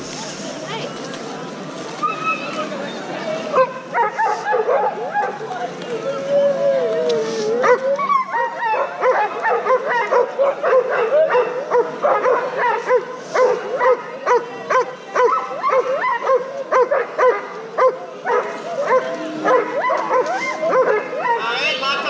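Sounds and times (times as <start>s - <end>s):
dogs barking and yipping: 3.5s - 22.0s.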